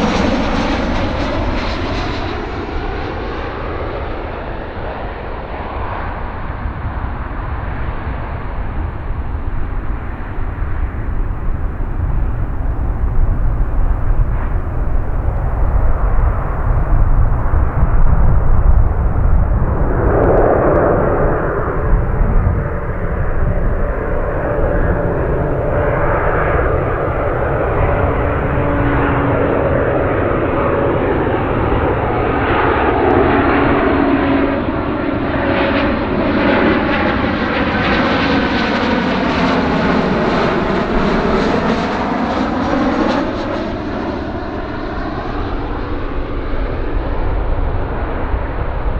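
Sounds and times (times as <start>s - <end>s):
jet airliner engines roaring: 0.0s - 48.9s.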